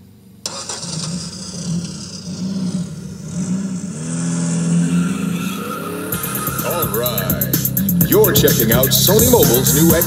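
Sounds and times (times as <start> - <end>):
car engine revving through speakers: 0.4 - 10.0.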